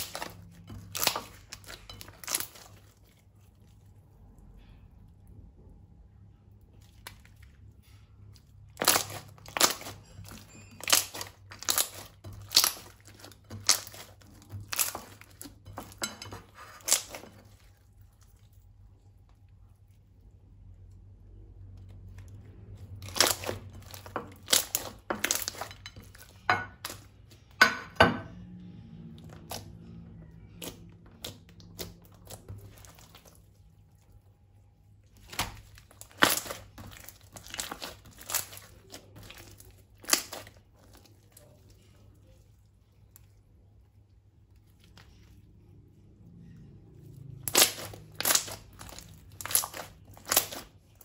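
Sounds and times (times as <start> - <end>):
slime materials crinkling and crunching: 0.0 - 5.6, 6.4 - 27.6, 28.9 - 51.0.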